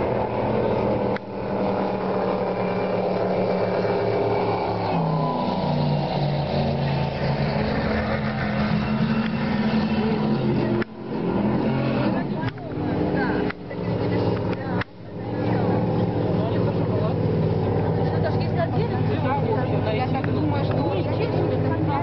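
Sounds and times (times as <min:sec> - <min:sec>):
speedboat engines running hard: 0:00.0 - 0:22.0.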